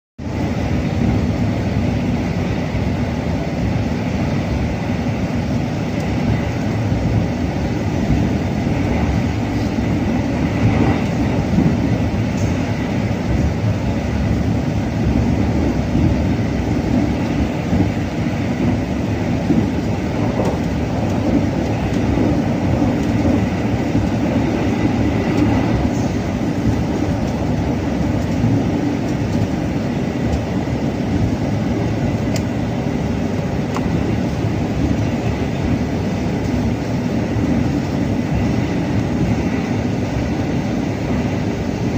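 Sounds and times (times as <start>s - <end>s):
train wheels rumbling: 0.2s - 41.9s.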